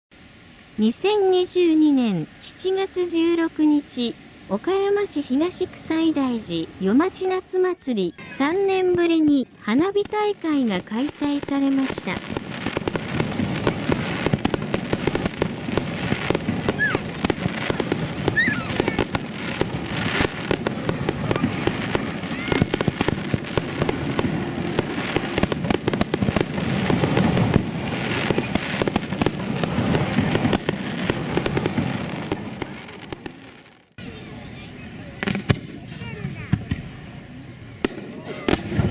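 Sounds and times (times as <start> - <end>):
fireworks bursting and crackling: 0.2 - 38.9.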